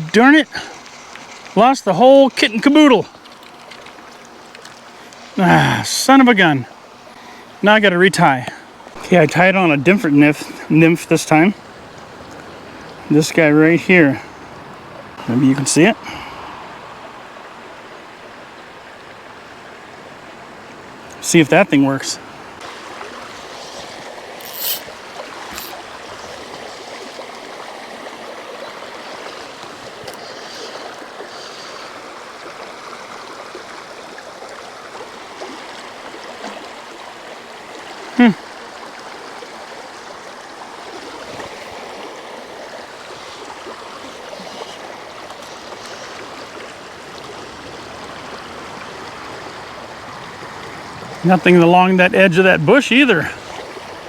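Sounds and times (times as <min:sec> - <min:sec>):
mountain river rushing: 0:00.0 - 0:54.0.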